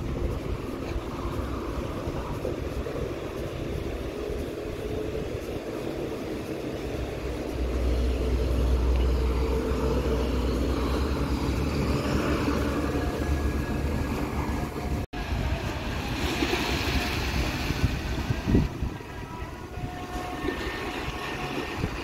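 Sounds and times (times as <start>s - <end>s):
road traffic going by: 0.0s - 22.0s.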